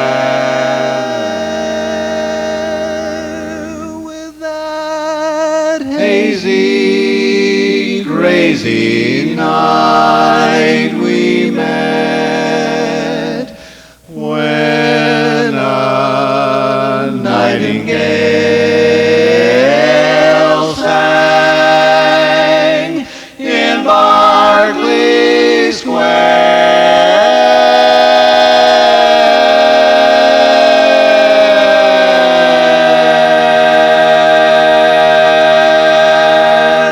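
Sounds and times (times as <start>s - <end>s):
male voices singing in harmony: 0.0s - 36.9s.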